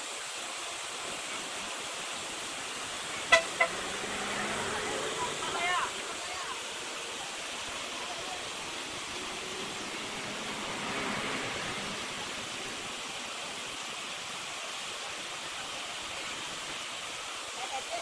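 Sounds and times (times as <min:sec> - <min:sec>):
water rushing through dam: 0:00.0 - 0:18.0.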